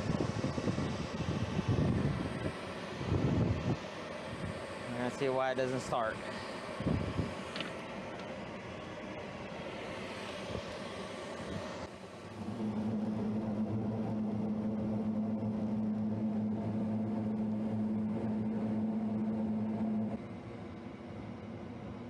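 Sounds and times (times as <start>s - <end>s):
deeper steady hum: 0.0s - 22.0s
inducer motors humming: 0.0s - 22.0s.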